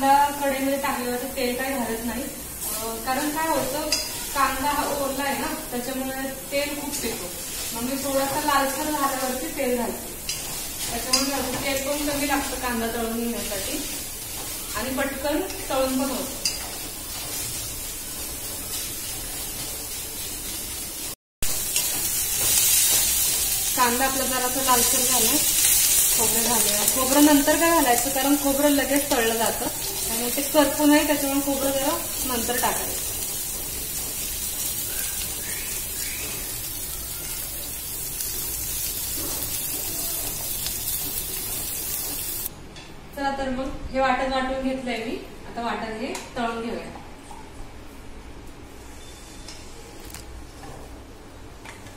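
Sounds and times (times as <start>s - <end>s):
onions sizzling in a pan: 0.0s - 42.5s.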